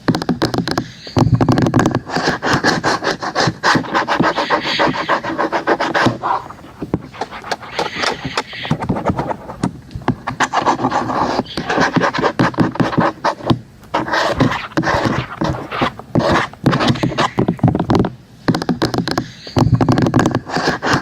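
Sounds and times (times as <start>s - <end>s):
tapping and scratching hard objects: 0.0s - 21.0s.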